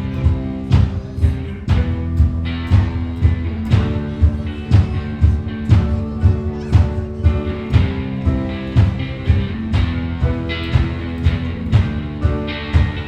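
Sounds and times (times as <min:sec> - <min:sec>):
drums steady beat: 0:00.0 - 0:13.0
guitar chords: 0:00.0 - 0:13.0.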